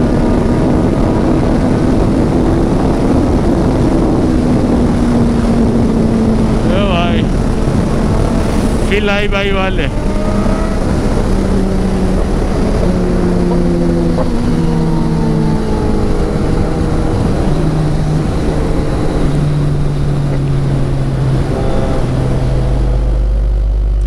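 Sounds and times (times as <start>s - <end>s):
motorcycle engine running: 0.0s - 8.9s, 9.8s - 24.0s
wind noise on microphone: 0.0s - 24.0s.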